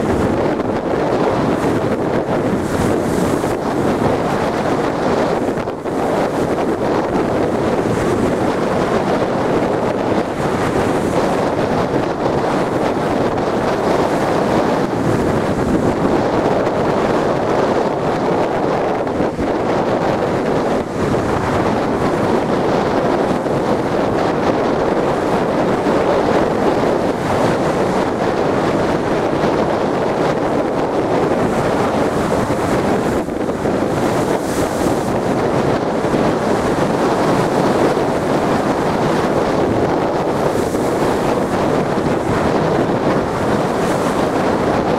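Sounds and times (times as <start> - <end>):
surf surging against sea wall: 0.0 - 44.9
wind buffeting microphone: 0.0 - 44.9.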